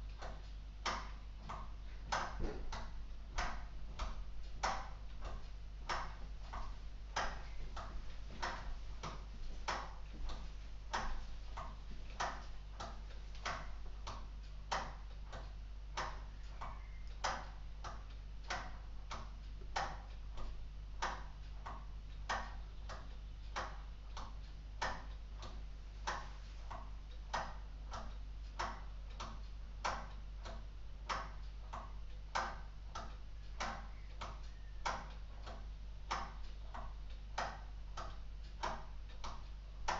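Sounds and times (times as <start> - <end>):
clock escapement ticking: 0.0 - 39.9.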